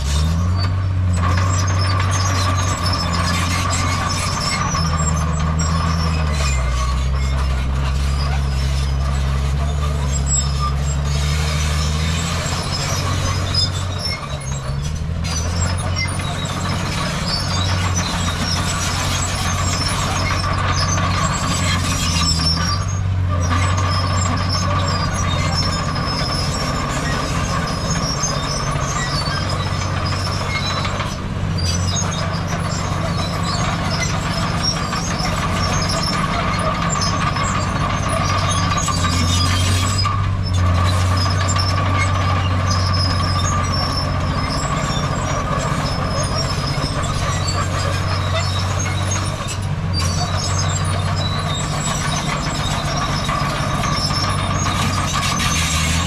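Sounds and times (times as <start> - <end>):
heavy diesel machinery engine drone: 0.0 - 56.0.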